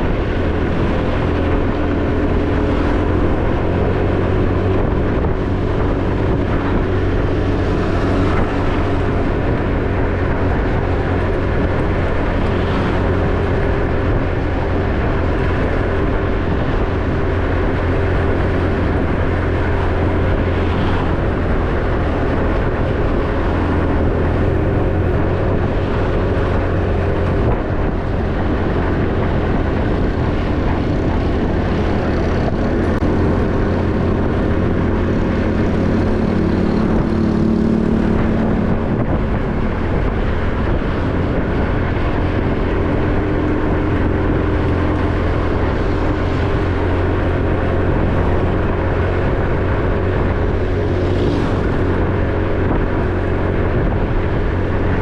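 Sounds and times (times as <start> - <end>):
motorbike engine running: 0.0 - 55.0
road noise: 0.0 - 55.0
wind noise: 0.0 - 55.0.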